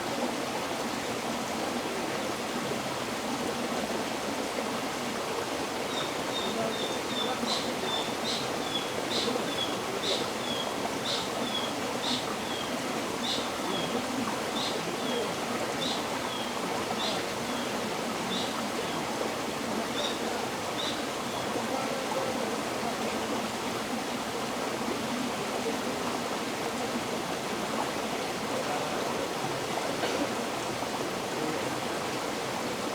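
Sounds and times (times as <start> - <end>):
river water flowing: 0.0 - 32.9.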